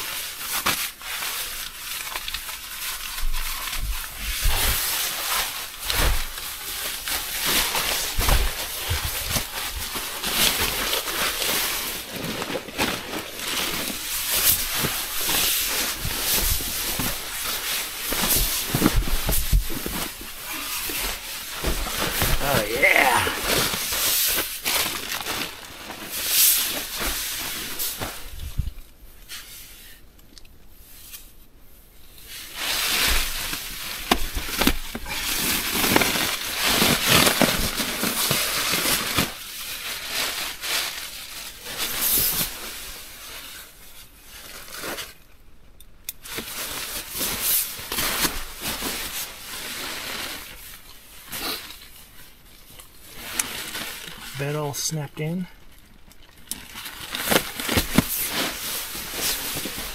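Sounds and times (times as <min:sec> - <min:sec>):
nylon bedding rustling: 0:00.0 - 0:29.9, 0:32.0 - 0:45.3, 0:46.2 - 0:55.4, 0:56.6 - 0:59.9.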